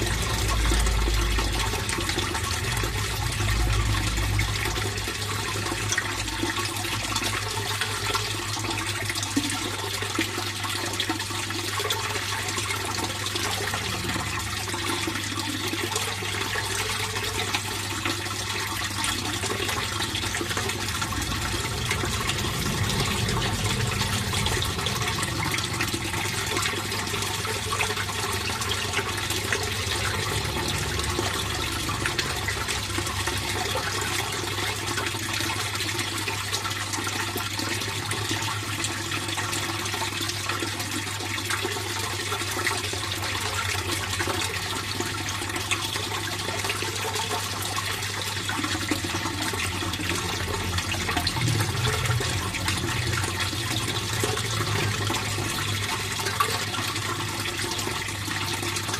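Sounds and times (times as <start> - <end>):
pond water flowing: 0.0 - 58.9.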